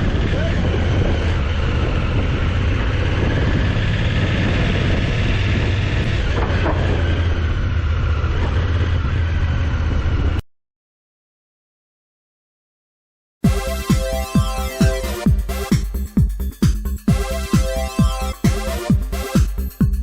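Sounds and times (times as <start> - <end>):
ferry diesel engine drone: 0.0 - 10.4, 13.4 - 20.0.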